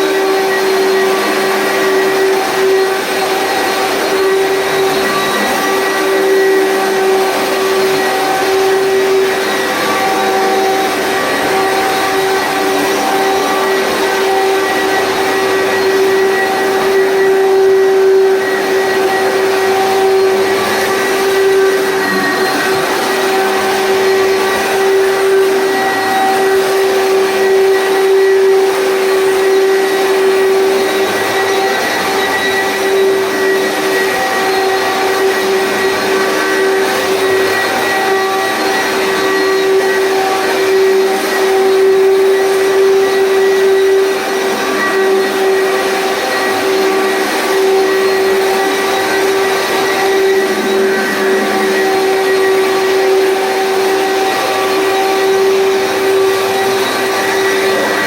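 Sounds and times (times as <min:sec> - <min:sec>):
vacuum cleaner motor whine: 0:00.0 - 0:58.0.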